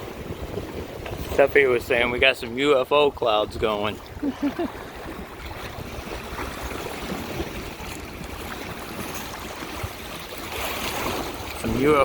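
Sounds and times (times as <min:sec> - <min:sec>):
waves washing against shore: 0:00.0 - 0:12.0
wind rumbling on microphone: 0:00.0 - 0:12.0.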